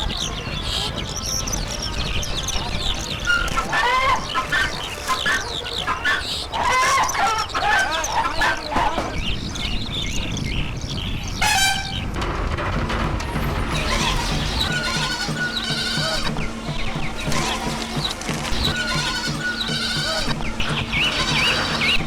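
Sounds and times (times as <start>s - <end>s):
chickens clucking: 0.1s - 22.0s.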